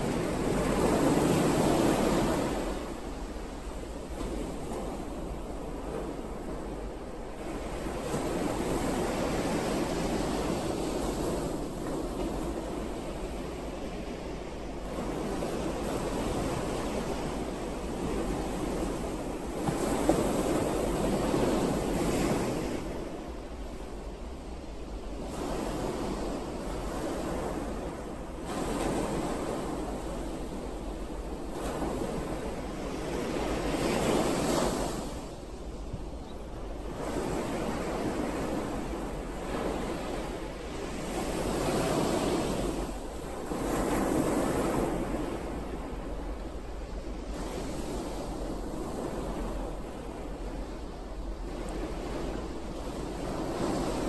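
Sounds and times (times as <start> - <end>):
ocean waves on a shore: 0.0 - 54.0.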